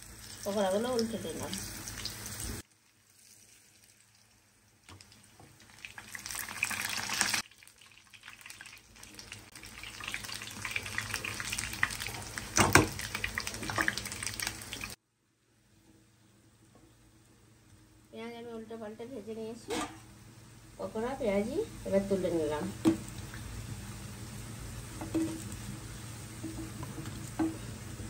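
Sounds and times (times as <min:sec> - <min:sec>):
pakoras sizzling in hot oil: 0:00.0 - 0:15.0, 0:16.1 - 0:28.0.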